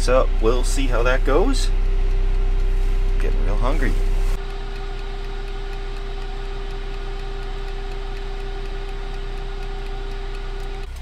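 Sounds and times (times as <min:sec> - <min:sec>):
oven fan humming: 0:00.0 - 0:11.0.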